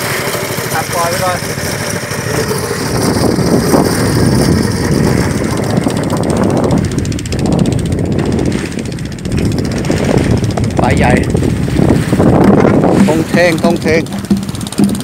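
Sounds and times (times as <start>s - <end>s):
boat engine running: 0.0s - 15.0s
water splashing along hull: 0.0s - 15.0s.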